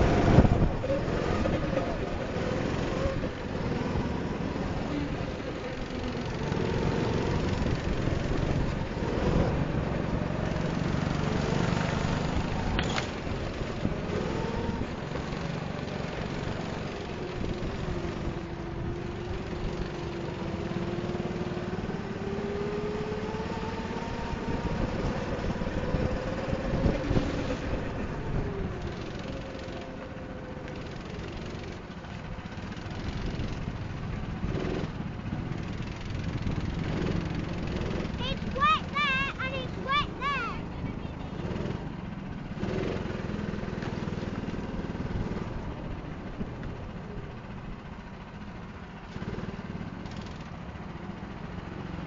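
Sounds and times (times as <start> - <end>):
go-kart engine revving: 0.0 - 52.0.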